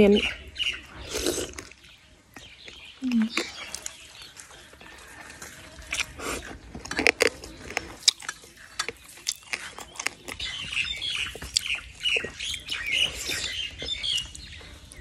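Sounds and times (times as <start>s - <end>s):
close-up chewing with crunches: 0.0s - 15.0s.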